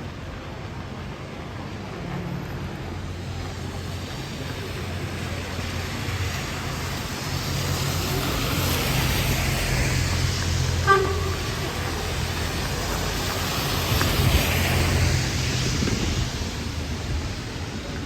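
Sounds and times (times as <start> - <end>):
tyres hissing on wet road: 0.0 - 18.0
vehicle engines rumbling: 0.0 - 18.0.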